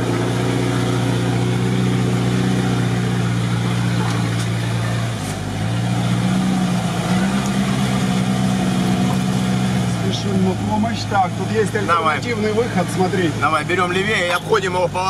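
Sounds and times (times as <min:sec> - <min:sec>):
off-road vehicle engine pulling: 0:00.0 - 0:15.0.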